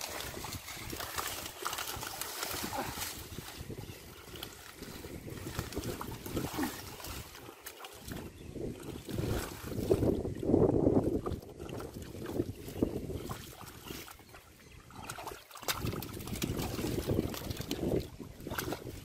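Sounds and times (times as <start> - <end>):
hands splashing in muddy water: 0.0 - 19.0
wet mud squelches: 0.0 - 19.0.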